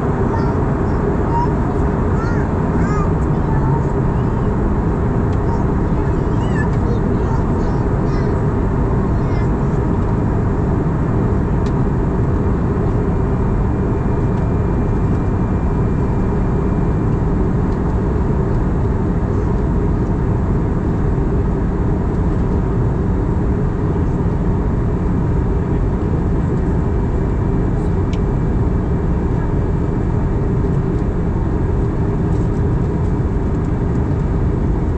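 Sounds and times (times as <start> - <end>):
airplane cabin engine rush: 0.0 - 34.9.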